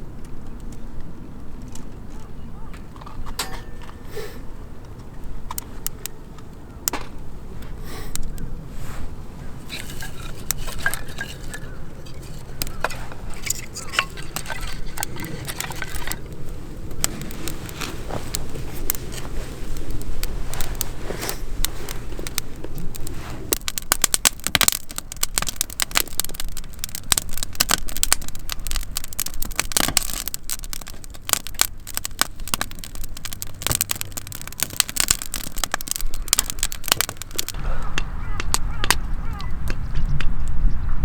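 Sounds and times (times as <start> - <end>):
wood fire crackling: 0.0 - 39.8.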